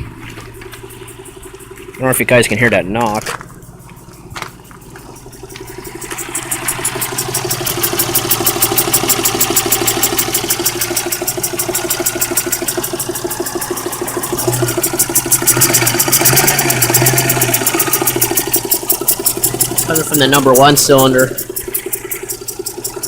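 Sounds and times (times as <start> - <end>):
car engine idling with knock: 0.0 - 23.0.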